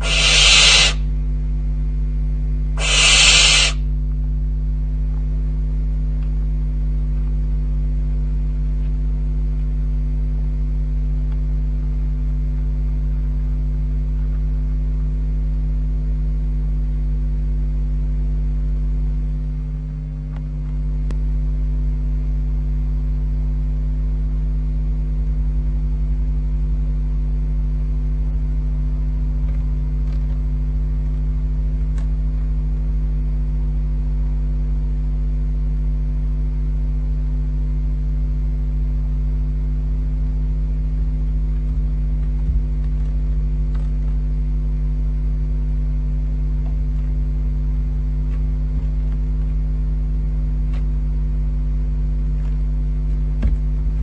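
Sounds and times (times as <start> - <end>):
electrical mains hum: 0.0 - 54.0.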